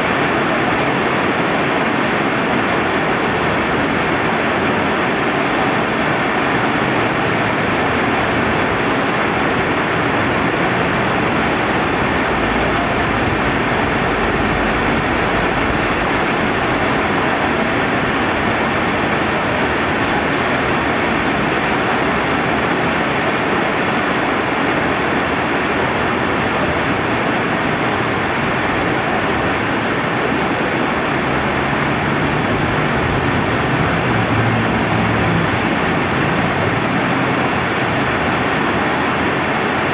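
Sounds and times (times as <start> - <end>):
river water flowing: 0.0 - 39.9
steady rain: 0.0 - 39.9.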